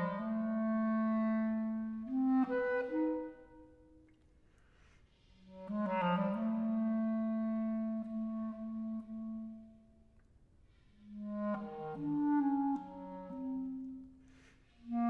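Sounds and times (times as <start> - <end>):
solo clarinet: 0.0 - 15.0.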